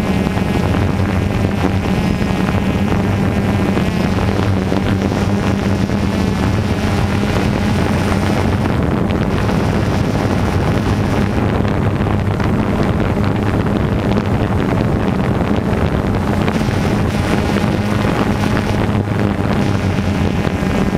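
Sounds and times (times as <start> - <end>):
drone motors humming: 0.0 - 20.9
wind on microphone: 0.0 - 20.9.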